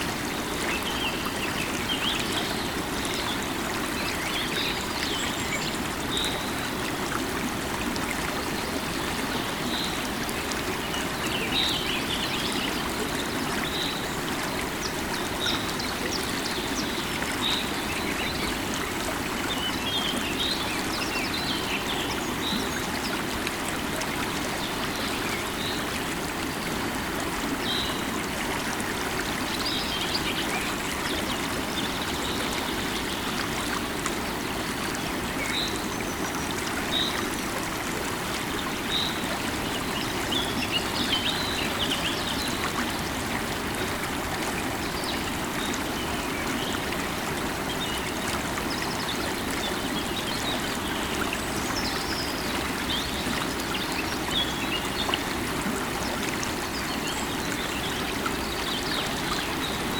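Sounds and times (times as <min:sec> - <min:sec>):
river water over stones: 0:00.0 - 0:59.9.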